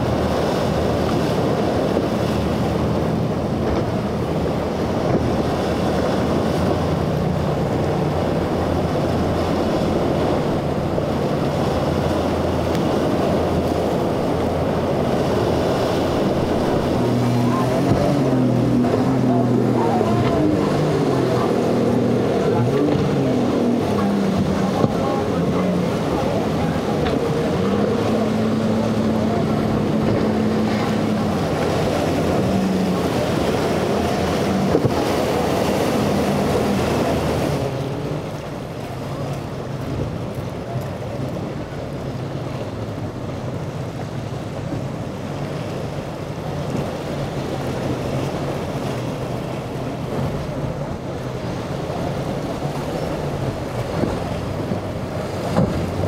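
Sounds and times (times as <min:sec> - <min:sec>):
outboard boat engines running: 0:00.0 - 0:56.0
water splashing: 0:00.0 - 0:56.0
wind buffeting microphone: 0:00.0 - 0:56.0.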